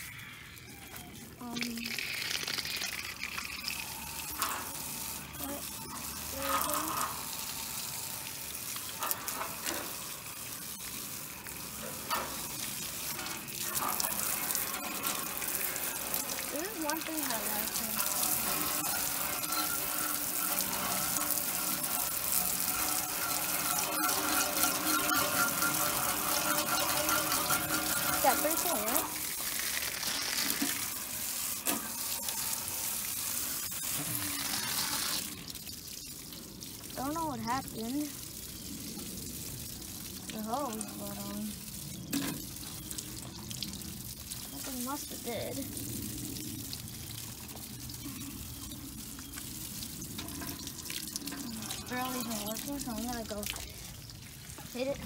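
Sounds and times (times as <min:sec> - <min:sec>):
garden hose spraying water: 0:00.0 - 0:55.0.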